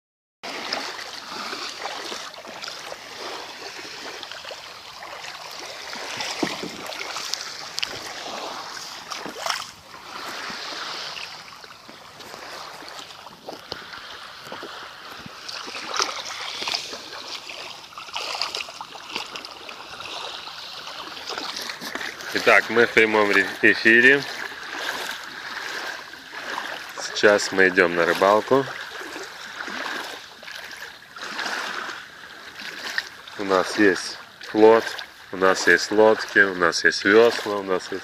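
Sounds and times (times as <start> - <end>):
small waves lapping on sand: 0.4 - 38.0.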